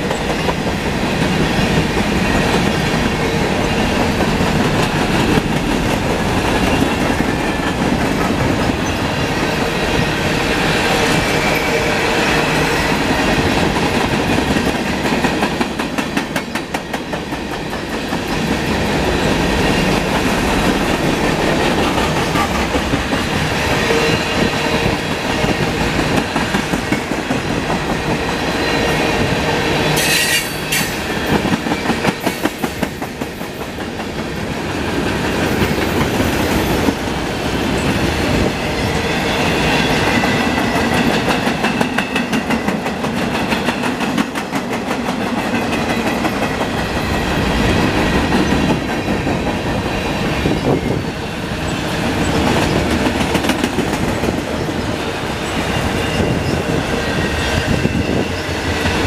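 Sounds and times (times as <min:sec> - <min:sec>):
clickety-clack over rail joints: 0:00.0 - 0:59.0
train wheels rumbling on rails: 0:00.0 - 0:59.0.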